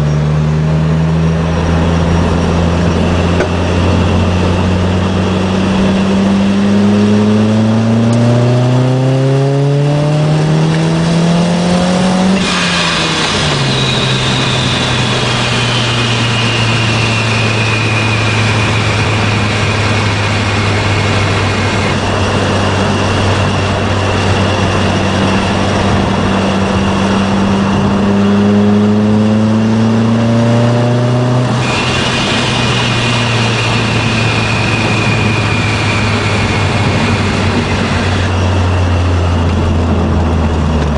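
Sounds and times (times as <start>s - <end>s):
car engine accelerating: 0.0s - 40.9s
supercharger whine: 0.0s - 40.9s.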